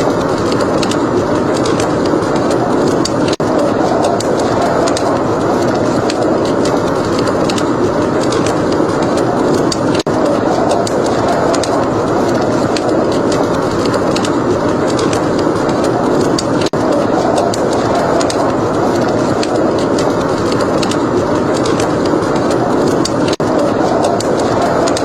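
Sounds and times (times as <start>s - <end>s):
steady rushing noise: 0.0s - 25.0s
wood fire crackling and popping: 0.0s - 25.0s.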